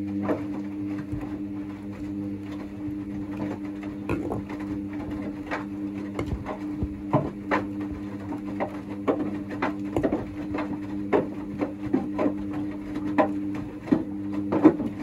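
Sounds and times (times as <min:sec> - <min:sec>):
washing machine motor hum: 0:00.0 - 0:15.0
water sloshing in drum: 0:00.0 - 0:15.0
wet laundry thudding: 0:02.1 - 0:15.0.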